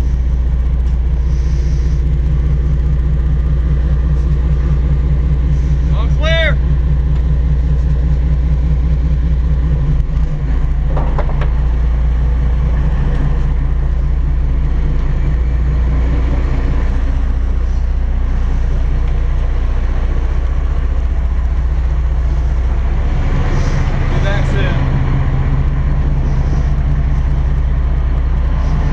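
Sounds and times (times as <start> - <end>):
marine diesel engines droning: 0.0 - 28.9.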